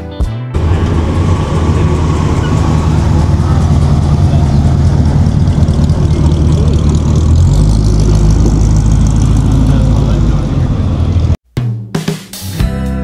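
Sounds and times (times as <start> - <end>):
car engine rumble: 0.6 - 11.4.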